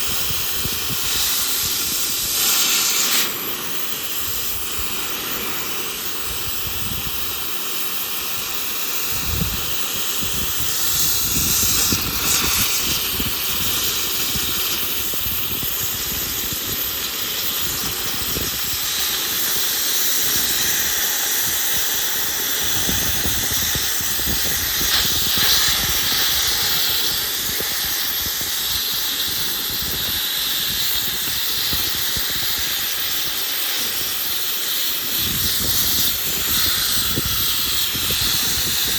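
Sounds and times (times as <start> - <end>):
gas cutting torch hissing: 0.0 - 38.9.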